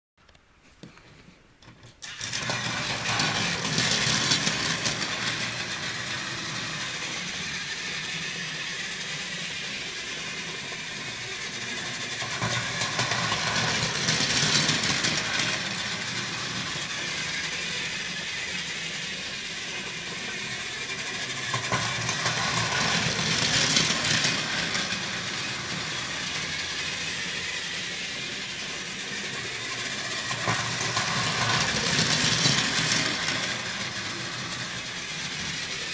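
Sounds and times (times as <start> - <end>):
toy train motor whirring: 1.9 - 35.9.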